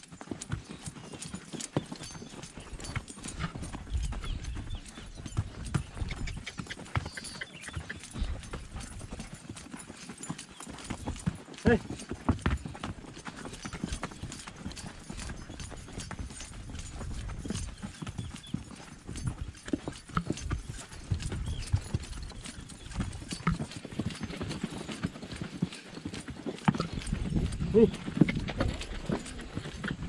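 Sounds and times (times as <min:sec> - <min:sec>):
horse hooves on rocky trail: 0:00.0 - 0:30.0.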